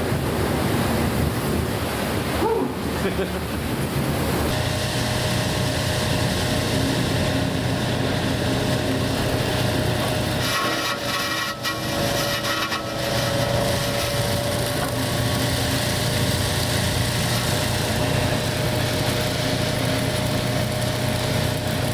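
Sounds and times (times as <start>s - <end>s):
ship engine humming: 0.0s - 21.9s.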